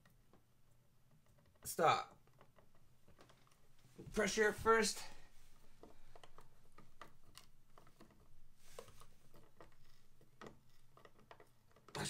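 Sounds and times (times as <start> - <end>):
screwdriver clicks and creaks: 0.0 - 12.0.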